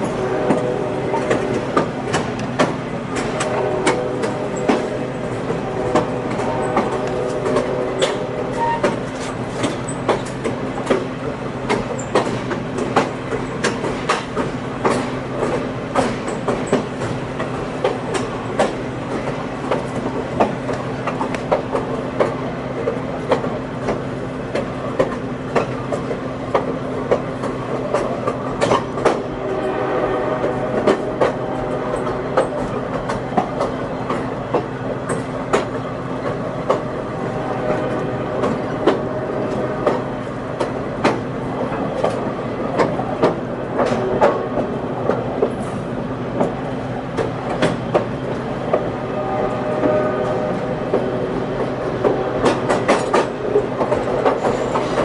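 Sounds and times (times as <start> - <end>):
train wheels clicking over rail joints: 0.0 - 29.3, 30.4 - 48.9, 49.6 - 55.0.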